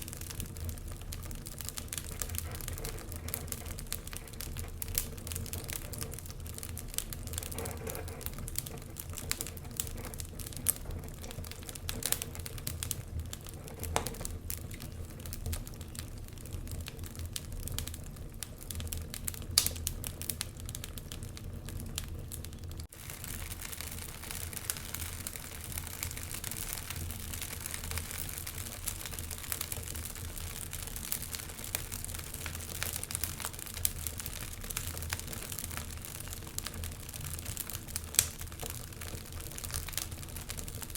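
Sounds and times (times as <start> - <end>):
fire crackling and popping: 0.0 - 40.9
fire hissing: 0.0 - 40.9
fire low rumble: 0.0 - 40.9.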